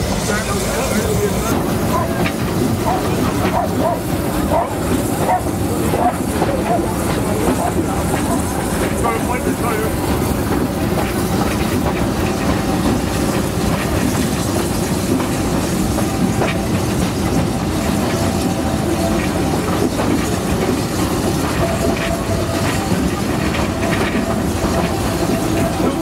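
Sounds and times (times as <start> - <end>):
steam train rumble: 0.0 - 26.0
wheels clacking on rails: 0.0 - 26.0.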